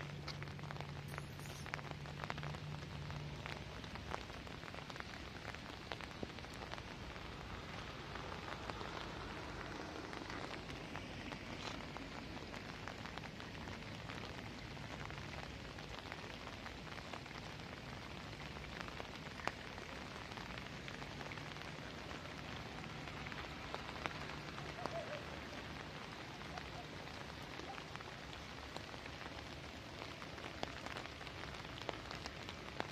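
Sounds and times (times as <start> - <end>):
rain falling: 0.0 - 32.9
raindrop ticks: 0.0 - 32.9.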